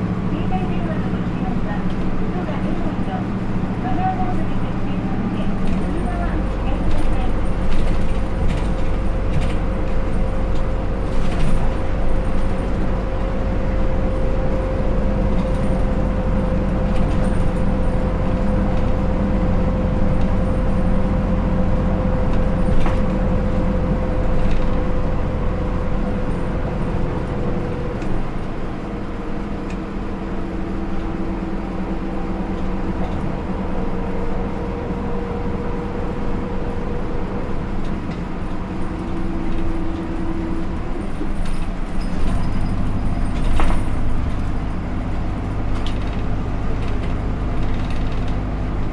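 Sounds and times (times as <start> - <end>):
bus engine rumble from inside: 0.0 - 48.9.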